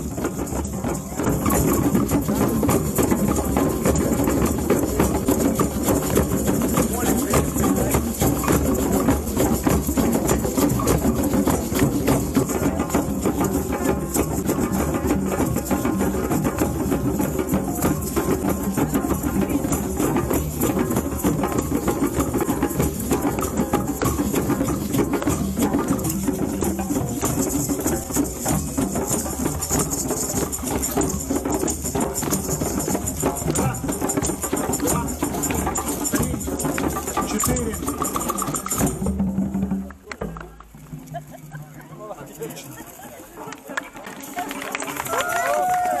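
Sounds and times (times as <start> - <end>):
hand percussion rhythm: 0.0 - 46.0.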